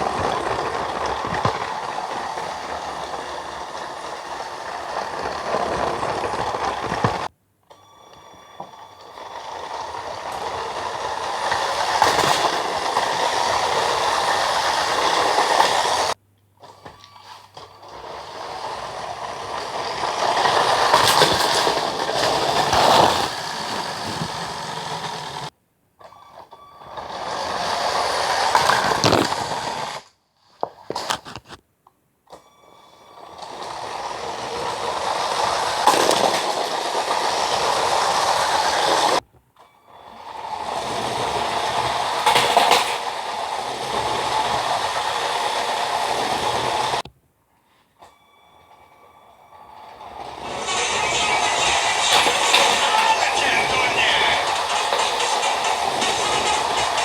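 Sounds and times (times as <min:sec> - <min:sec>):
toy train on plastic track: 0:00.0 - 0:31.6, 0:32.3 - 0:57.0.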